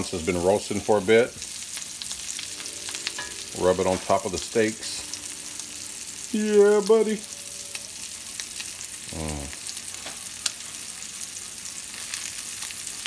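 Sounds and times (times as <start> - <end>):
steaks sizzling in butter: 0.0 - 13.0.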